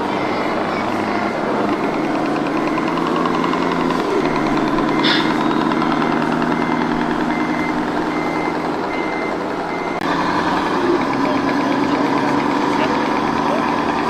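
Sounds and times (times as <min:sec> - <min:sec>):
model truck engine sound: 0:00.0 - 0:14.0
reversing beeper: 0:00.0 - 0:14.0.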